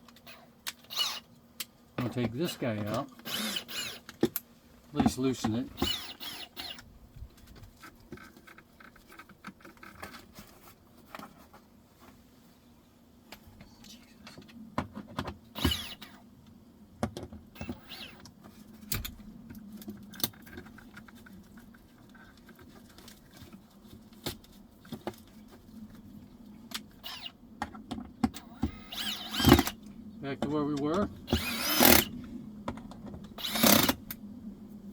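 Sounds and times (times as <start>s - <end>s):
hand tools and wood clicking: 0.0s - 11.6s, 14.3s - 16.2s, 17.0s - 25.6s, 26.7s - 32.1s, 32.7s - 34.2s
faint steady hum: 0.0s - 34.9s.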